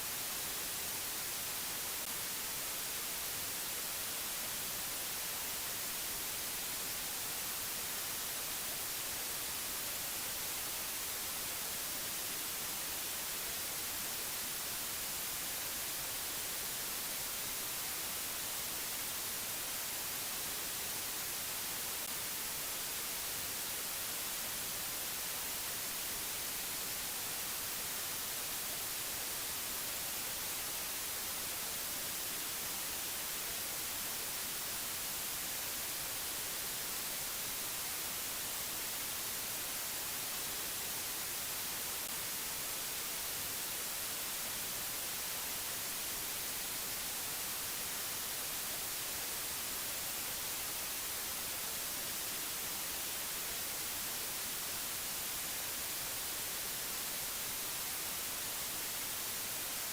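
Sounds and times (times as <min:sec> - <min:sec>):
static-like hiss: 0:00.0 - 0:59.9.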